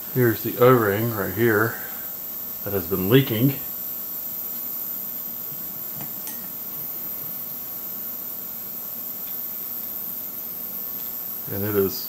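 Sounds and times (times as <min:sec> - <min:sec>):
electrical hum with high whine: 0:00.0 - 0:12.0.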